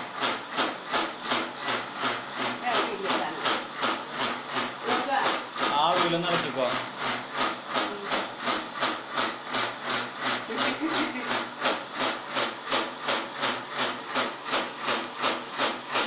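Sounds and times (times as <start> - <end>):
mixer grinder hissing chuffs: 0.0 - 16.0.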